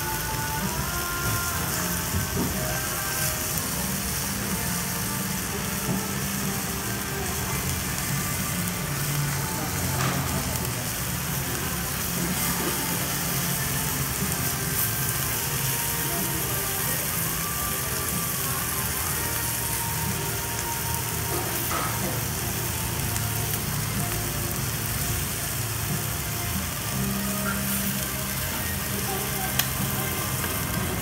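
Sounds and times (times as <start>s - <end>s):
meat sizzling on a griddle: 0.0s - 31.0s.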